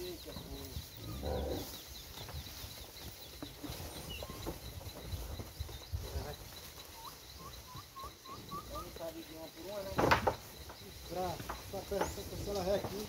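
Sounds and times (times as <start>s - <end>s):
rapid high chirping: 0.0s - 12.8s.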